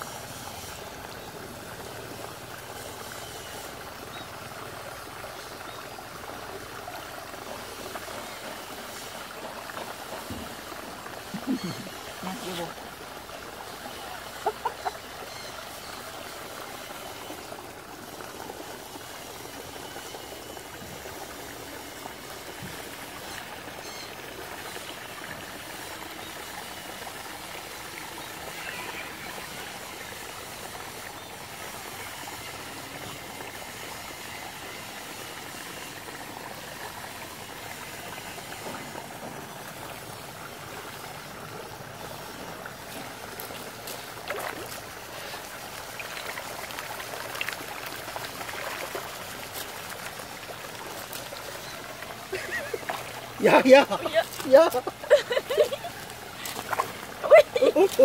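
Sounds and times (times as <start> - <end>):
water trickling into pond: 0.0 - 58.0.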